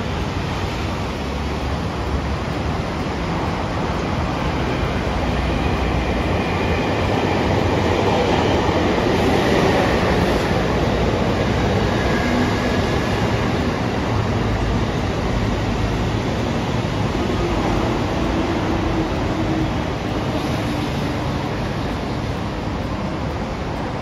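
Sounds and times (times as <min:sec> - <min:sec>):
train running past: 0:00.0 - 0:24.0.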